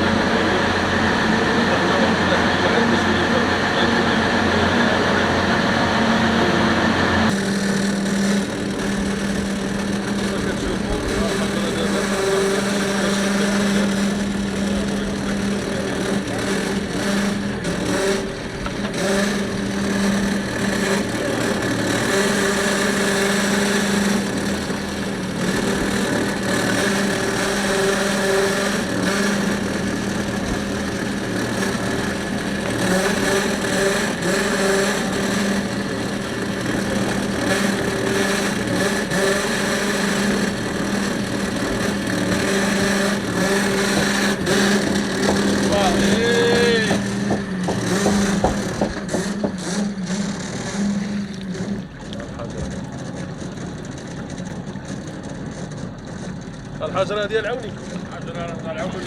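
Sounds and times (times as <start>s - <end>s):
boat motor running: 0.0s - 59.0s.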